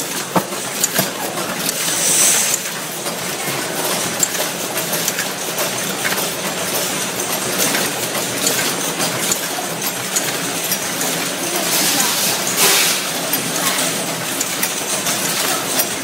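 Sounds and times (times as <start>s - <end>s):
machine clattering: 0.0s - 16.0s.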